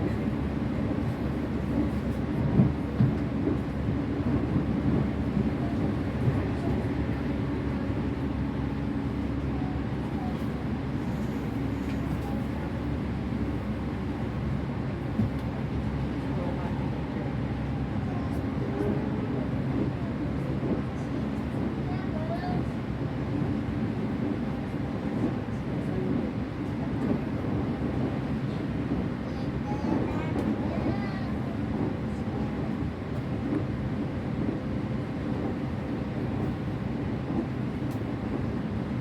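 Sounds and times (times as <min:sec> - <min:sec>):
train interior rumble: 0:00.0 - 0:39.0.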